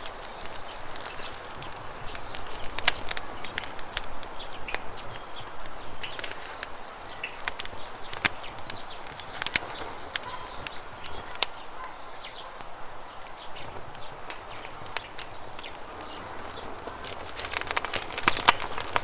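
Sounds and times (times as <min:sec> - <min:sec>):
bird chirps: 0:00.0 - 0:19.0
campfire crackling and popping: 0:00.0 - 0:19.0.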